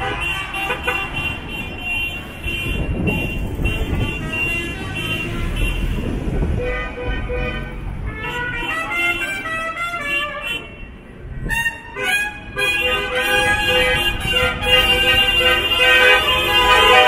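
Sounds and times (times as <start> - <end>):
car horns tooting: 0.0 - 17.0
passing cars rumbling: 0.0 - 17.0.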